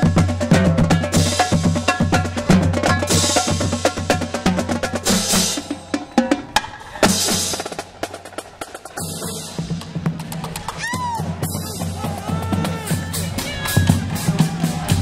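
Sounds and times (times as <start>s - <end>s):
drumline playing: 0.0s - 15.0s.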